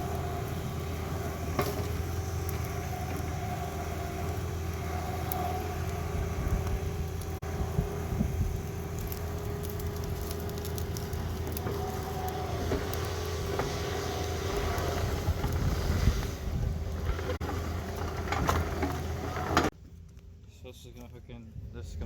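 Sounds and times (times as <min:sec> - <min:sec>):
diesel engine running: 0:00.0 - 0:19.8.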